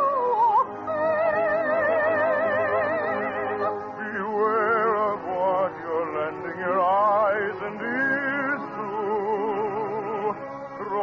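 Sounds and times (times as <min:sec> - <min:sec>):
orchestra playing: 0:00.1 - 0:11.0.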